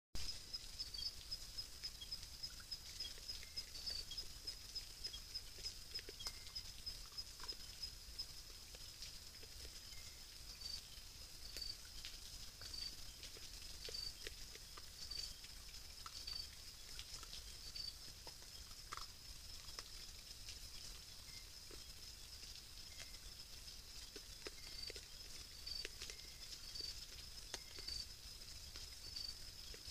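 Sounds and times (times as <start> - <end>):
animals crunching corn: 1.7 - 29.9.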